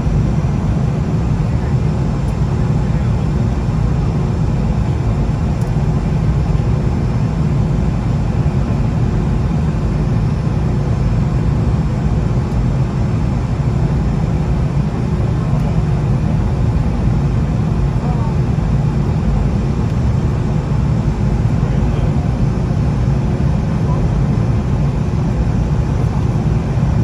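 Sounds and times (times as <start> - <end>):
aircraft cabin low rumble: 0.0 - 27.0.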